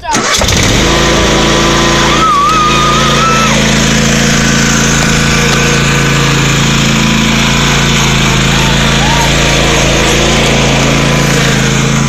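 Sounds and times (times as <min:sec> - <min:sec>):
tractor engine running: 0:00.2 - 0:12.0.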